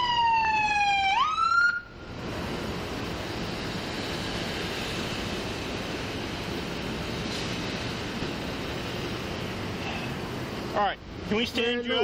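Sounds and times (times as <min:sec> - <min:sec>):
passing highway traffic: 0:00.0 - 0:12.0.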